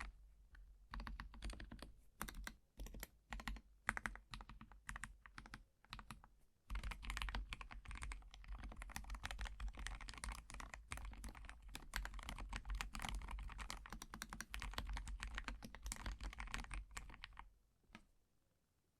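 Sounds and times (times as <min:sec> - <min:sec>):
mechanical keyboard typing: 0:00.9 - 0:17.4.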